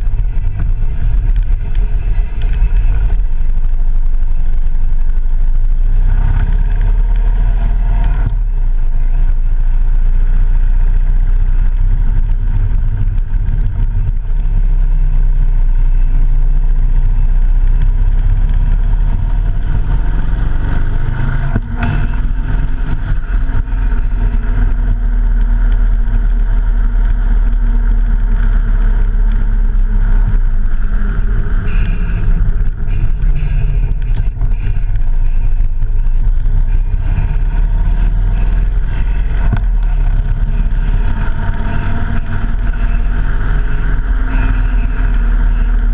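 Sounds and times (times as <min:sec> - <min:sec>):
engine tone dropping in pitch: 0:00.0 - 0:45.9
vehicle rumble: 0:00.0 - 0:45.9
wind noise: 0:00.0 - 0:45.9.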